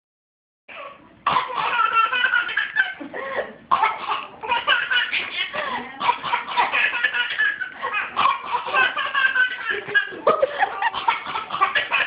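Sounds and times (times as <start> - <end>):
baby laughing: 0.7 - 12.0.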